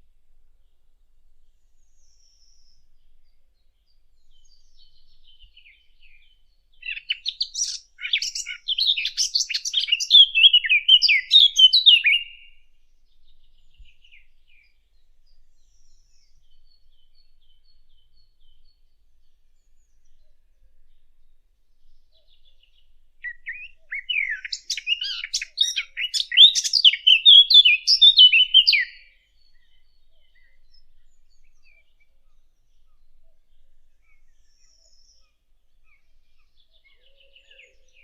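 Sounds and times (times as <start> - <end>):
warbler song: 0.0 - 38.0
faint bird twitters: 4.2 - 38.0.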